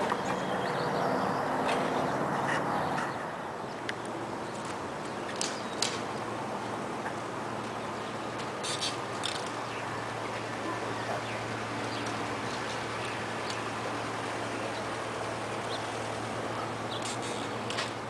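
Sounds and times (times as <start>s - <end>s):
constant low hum: 0.0s - 18.0s
outdoor background noise: 0.0s - 18.0s.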